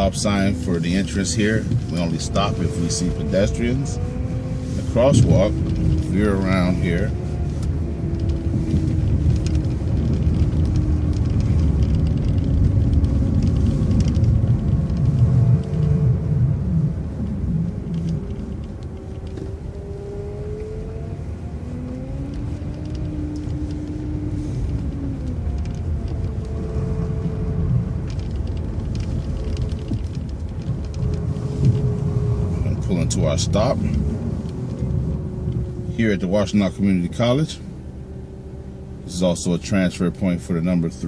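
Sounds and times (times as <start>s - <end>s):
bus engine rumble: 0.0s - 41.0s
drivetrain whine: 0.0s - 41.0s.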